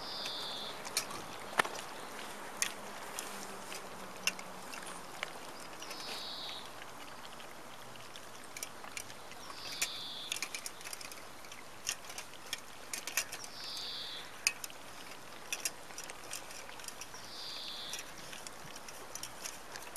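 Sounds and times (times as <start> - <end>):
puppies eating from metal bowls: 0.0 - 19.9.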